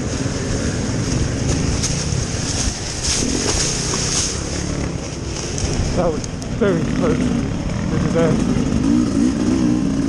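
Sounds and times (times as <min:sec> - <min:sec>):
two-stroke dirt bike engine: 0:00.0 - 0:10.0.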